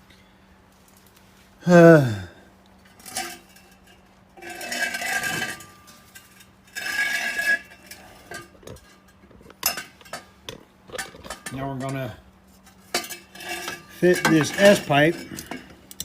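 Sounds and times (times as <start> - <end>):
metal pipes scraping and clinking: 2.8 - 16.0.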